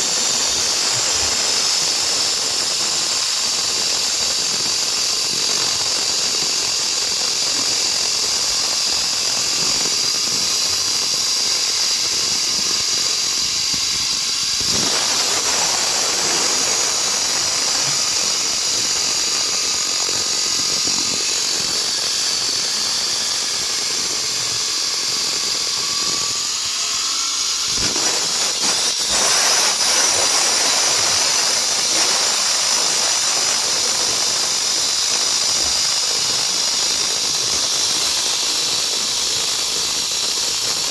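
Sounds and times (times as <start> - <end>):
concrete saw cutting concrete: 0.0 - 40.9.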